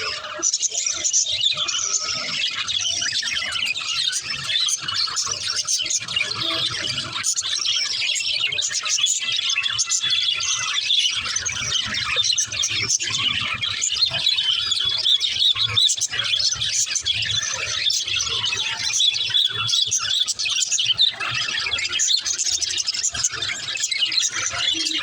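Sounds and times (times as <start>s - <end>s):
budgerigars chirping and chattering: 0.0s - 25.0s.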